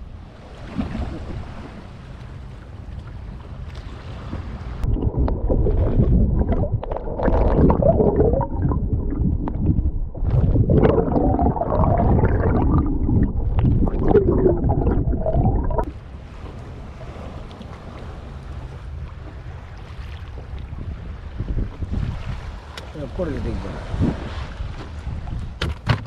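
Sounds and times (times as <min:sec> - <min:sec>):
sea noise: 0:00.0 - 0:25.6
wind: 0:00.0 - 0:26.0
muffled bubbling water rushing: 0:03.4 - 0:25.4.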